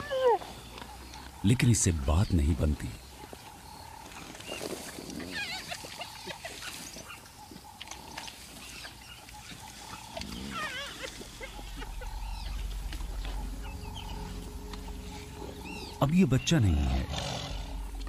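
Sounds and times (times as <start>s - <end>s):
hyenas squealing: 0.0s - 1.5s, 3.2s - 18.0s.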